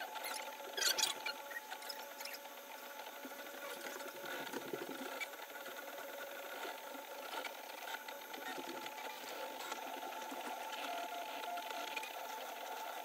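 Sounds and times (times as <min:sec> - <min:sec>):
printer stepper motors whirring: 0:00.0 - 0:13.0.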